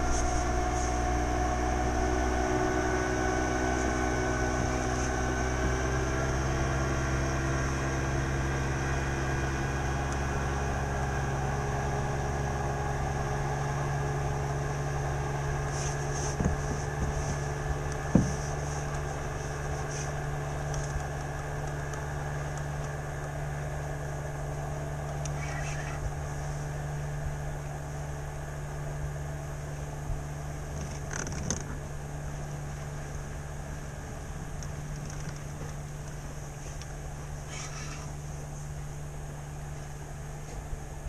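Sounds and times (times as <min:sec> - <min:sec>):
boat motor humming: 0:00.0 - 0:41.0.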